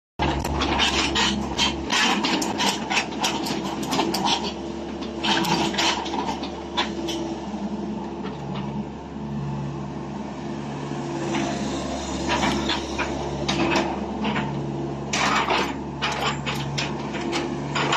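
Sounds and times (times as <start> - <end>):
excavator diesel engine humming: 0.2 - 17.9.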